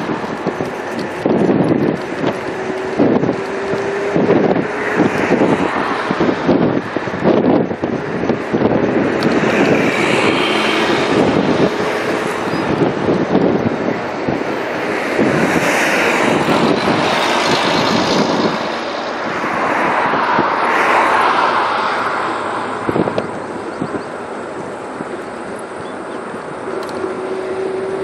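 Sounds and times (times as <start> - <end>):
vehicle road noise: 0.0 - 28.0
wind on microphone: 0.0 - 28.0.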